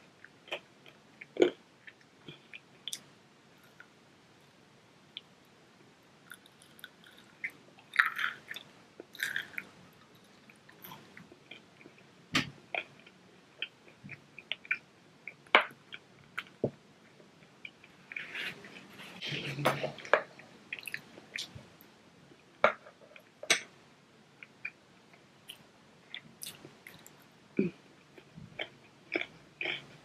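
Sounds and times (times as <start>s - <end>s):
child chewing with crunches: 0.1s - 4.0s, 6.3s - 22.4s, 24.4s - 30.0s.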